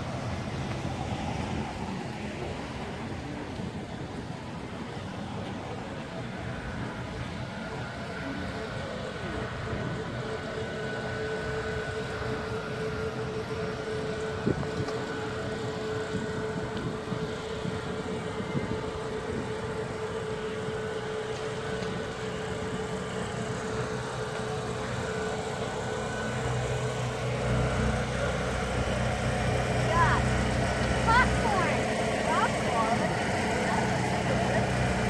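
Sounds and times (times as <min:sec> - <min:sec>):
van engine idling: 0:00.0 - 0:35.0.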